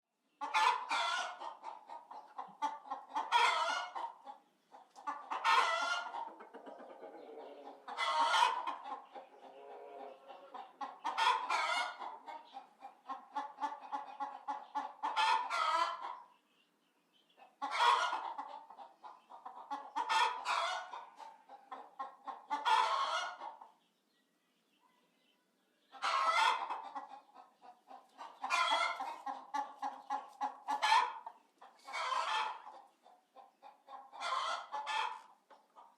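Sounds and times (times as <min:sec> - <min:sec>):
chicken clucking: 0:00.3 - 0:35.9
chicken squawking: 0:00.4 - 0:16.2, 0:17.6 - 0:23.6, 0:26.0 - 0:35.9.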